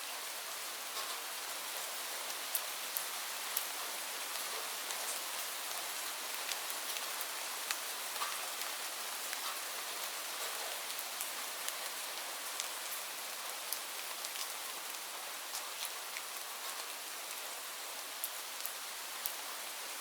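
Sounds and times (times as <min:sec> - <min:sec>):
steady rainfall: 0:00.0 - 0:20.0
raindrops ticking on a surface: 0:00.4 - 0:20.0.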